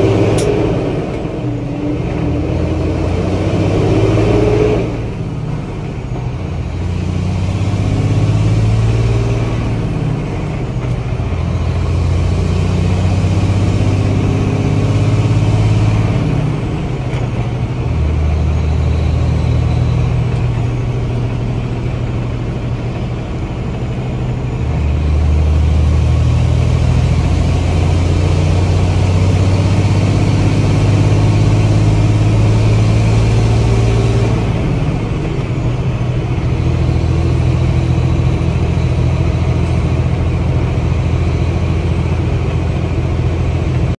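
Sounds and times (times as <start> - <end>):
truck diesel engine running: 0.0 - 44.0.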